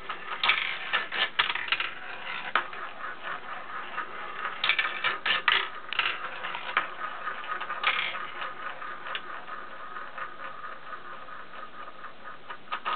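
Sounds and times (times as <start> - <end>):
marbles clicking against wood: 0.0 - 12.9
marbles rolling on wooden track: 0.0 - 12.9.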